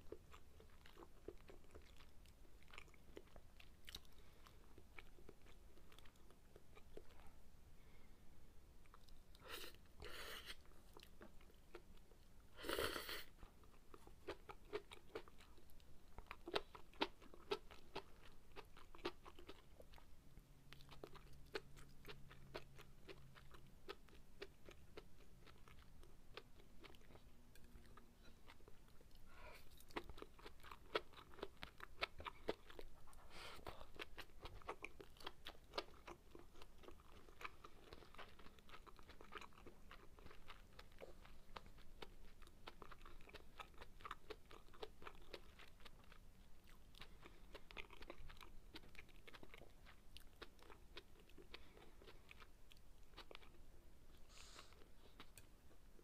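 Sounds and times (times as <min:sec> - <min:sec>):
soft wet chewing: 0:00.0 - 0:08.1, 0:08.7 - 0:56.0.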